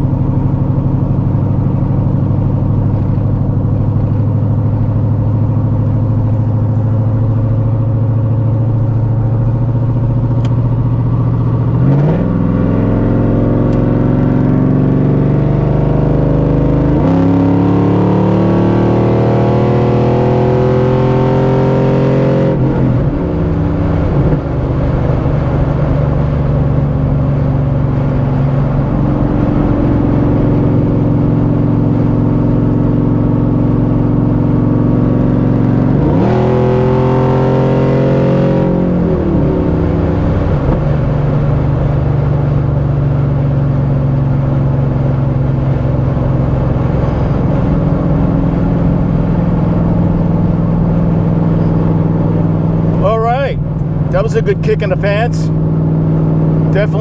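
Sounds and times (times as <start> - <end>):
car engine droning and revving: 0.0 - 57.0.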